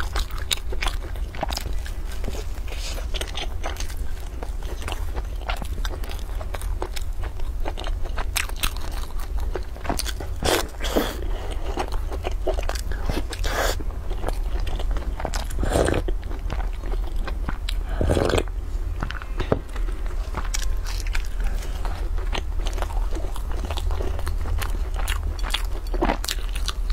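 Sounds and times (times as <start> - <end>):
chewing mouth sounds: 0.0 - 26.9.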